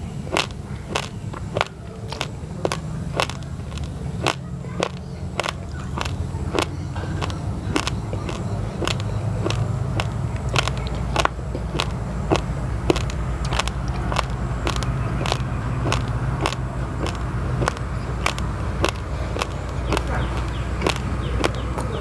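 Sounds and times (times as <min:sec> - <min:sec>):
rice grains being chewed: 0:00.0 - 0:22.0.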